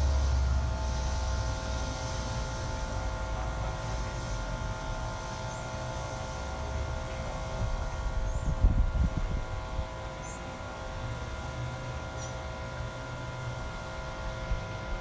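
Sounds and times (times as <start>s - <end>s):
buzzing hum of held tones: 0.0s - 15.0s.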